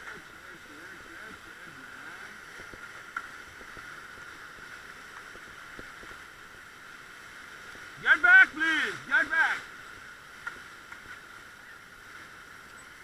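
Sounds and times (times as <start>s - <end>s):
white water rushing: 0.0s - 13.0s.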